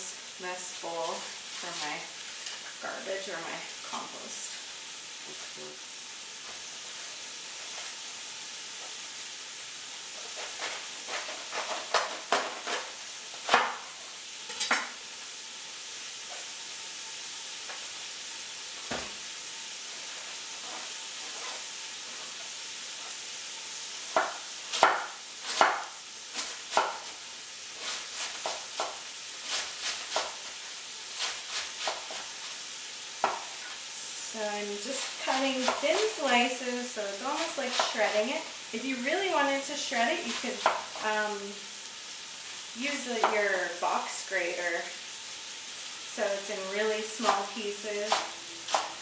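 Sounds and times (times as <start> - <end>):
meat sizzling in a pot: 0.0 - 49.0.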